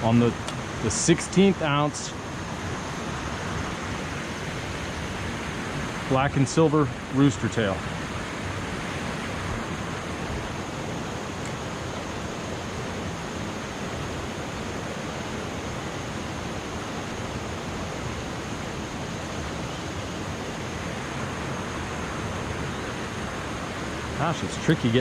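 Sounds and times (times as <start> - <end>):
river water pouring over dam: 0.0 - 25.0.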